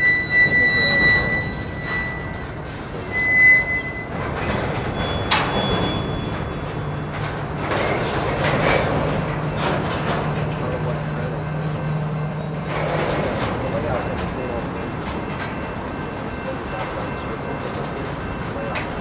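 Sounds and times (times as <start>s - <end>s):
train cars clanking and rattling: 0.0s - 19.0s
wheel flanges squealing: 0.0s - 19.0s.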